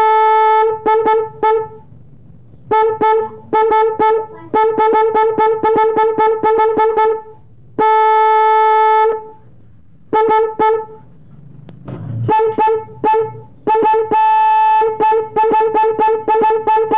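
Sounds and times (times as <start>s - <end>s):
motorcycle horn toots: 0.0s - 1.9s, 2.6s - 9.4s, 10.1s - 11.1s, 12.2s - 16.9s.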